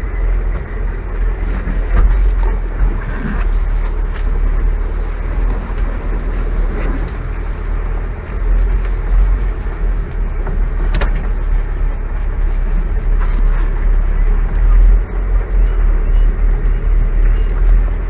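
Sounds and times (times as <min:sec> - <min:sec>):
engine rumbling: 0:00.0 - 0:18.0
branches scraping against vehicle: 0:00.2 - 0:18.0.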